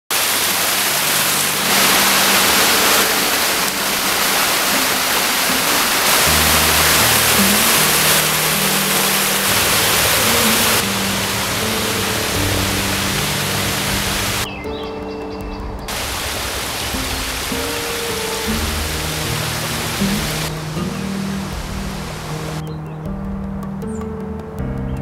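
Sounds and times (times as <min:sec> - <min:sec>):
waterfall rushing: 0:00.1 - 0:22.7
soft background music: 0:00.2 - 0:25.0.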